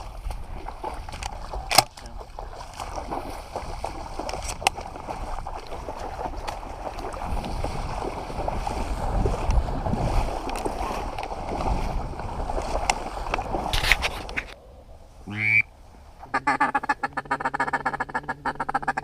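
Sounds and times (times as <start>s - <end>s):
wind noise: 0.0s - 17.0s
water noise: 0.0s - 19.0s.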